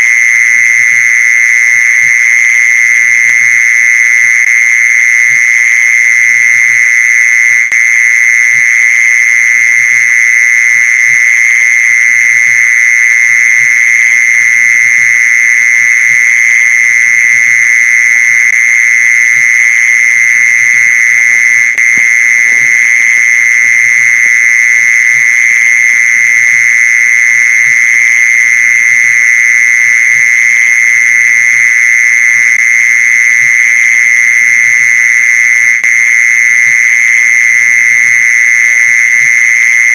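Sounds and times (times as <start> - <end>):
mole cricket trill: 0.0 - 39.9.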